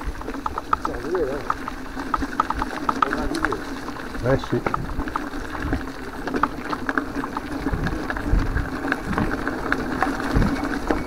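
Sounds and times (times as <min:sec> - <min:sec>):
bike rattles and clicks: 0:00.0 - 0:11.0
bike tyre rumble on dirt: 0:00.0 - 0:11.0.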